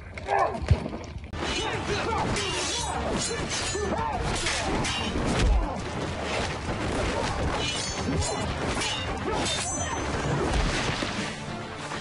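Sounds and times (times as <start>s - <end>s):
sword fight impacts: 1.4s - 11.2s
music: 1.4s - 12.0s.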